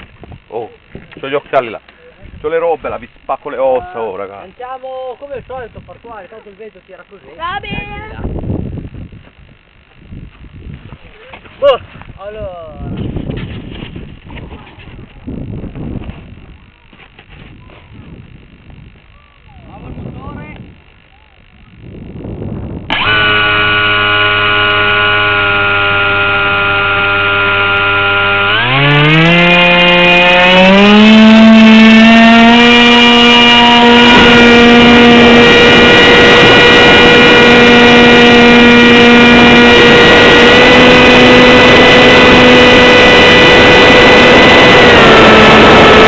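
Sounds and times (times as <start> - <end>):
electric motor and propeller whining: 0.0 - 46.0.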